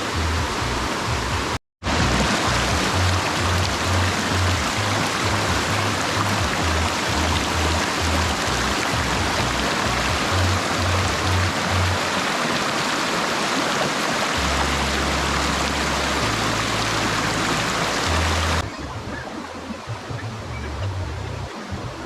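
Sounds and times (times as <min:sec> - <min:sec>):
low bass music: 0:00.0 - 0:12.0, 0:14.4 - 0:22.0
waterfall roaring: 0:00.0 - 0:18.6.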